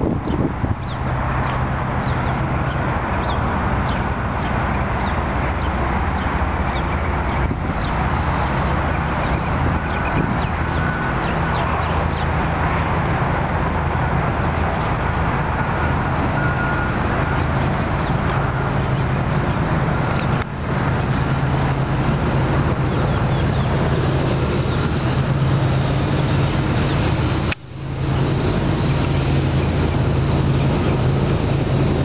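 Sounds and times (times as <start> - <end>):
diesel engine drone: 0.0 - 32.0
freight train rushing by: 0.0 - 32.0.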